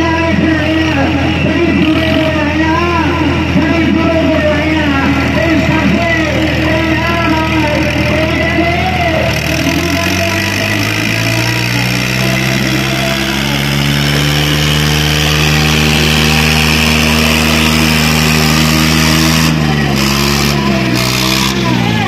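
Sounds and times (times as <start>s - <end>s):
tractor engine labouring: 0.0s - 22.0s.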